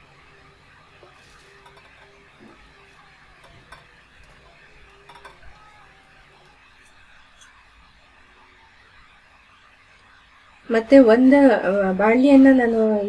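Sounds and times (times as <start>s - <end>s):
gas stove hiss: 0.0s - 13.0s.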